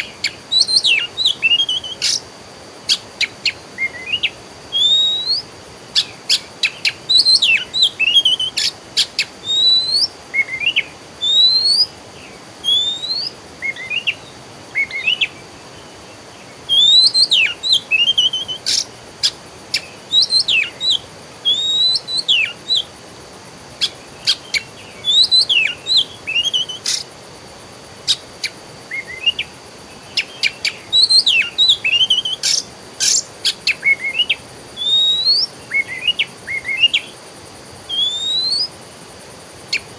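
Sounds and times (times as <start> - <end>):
songbirds whistling: 0.0 - 23.0, 23.8 - 27.2, 28.0 - 37.2, 37.8 - 38.8
faint high hum: 0.0 - 39.9.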